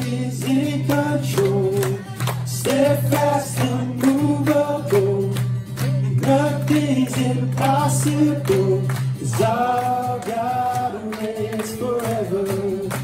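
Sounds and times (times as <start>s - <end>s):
voices singing praise song: 0.0s - 13.0s.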